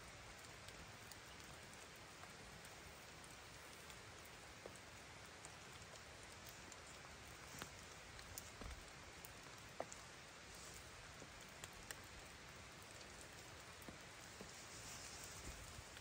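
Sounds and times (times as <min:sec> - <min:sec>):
faint steady rain: 0:00.0 - 0:16.0
drops ticking on a surface: 0:00.4 - 0:14.6.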